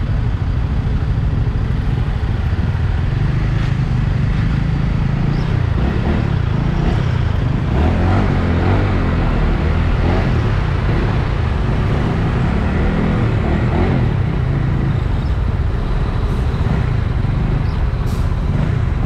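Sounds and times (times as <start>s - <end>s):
truck engines rumbling: 0.0s - 19.0s.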